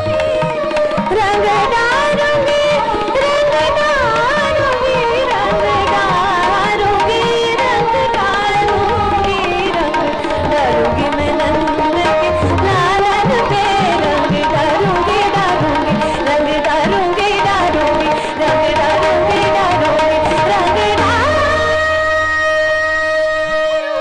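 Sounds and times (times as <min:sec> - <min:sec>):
tabla strokes: 0:00.0 - 0:24.0
woman singing: 0:00.0 - 0:24.0.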